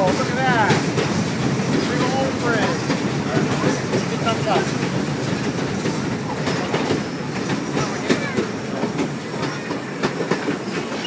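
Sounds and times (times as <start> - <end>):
train rumbling on track: 0.0 - 11.0
wheels clacking on rails: 0.0 - 11.0.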